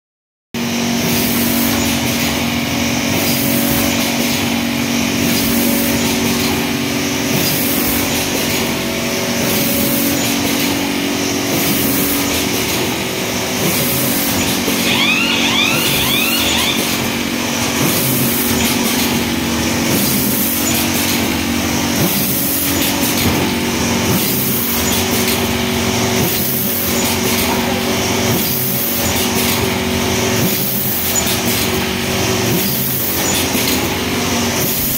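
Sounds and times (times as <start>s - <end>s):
machine mechanical hum: 0.6s - 34.9s.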